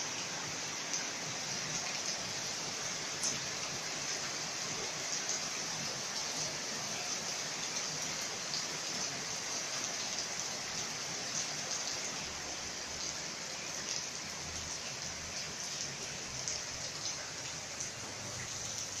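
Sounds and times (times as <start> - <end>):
heavy rain on pavement: 0.0 - 19.0.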